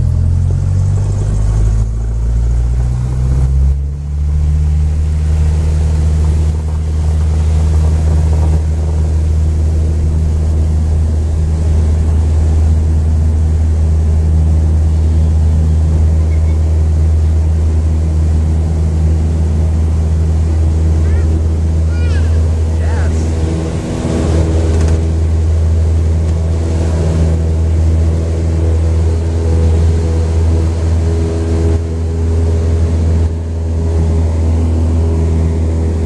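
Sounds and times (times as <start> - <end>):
propeller plane engine droning: 0.0 - 36.0.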